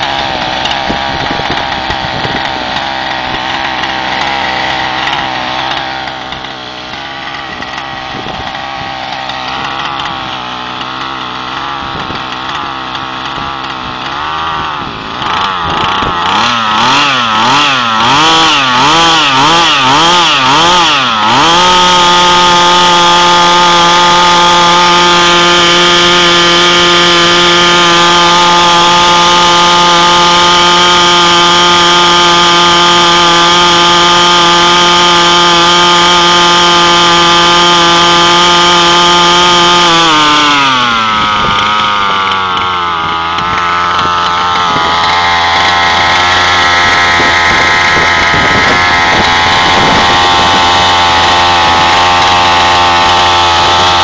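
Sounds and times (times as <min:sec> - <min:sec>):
two-stroke model engine running: 0:00.0 - 0:54.0.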